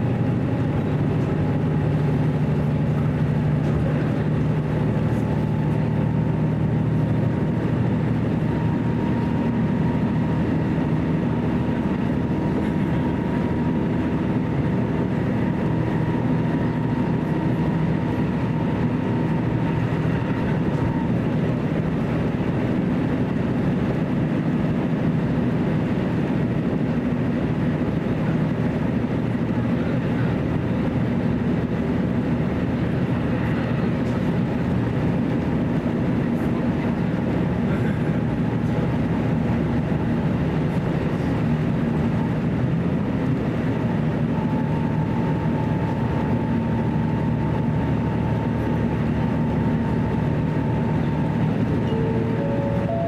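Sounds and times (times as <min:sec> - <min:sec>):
diesel railcar engine drone: 0:00.0 - 0:53.0.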